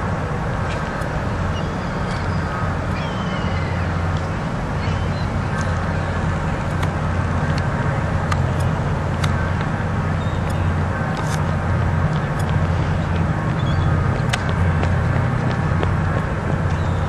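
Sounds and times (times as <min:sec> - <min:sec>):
low engine drone: 0:00.0 - 0:17.0
traffic noise: 0:00.0 - 0:17.0.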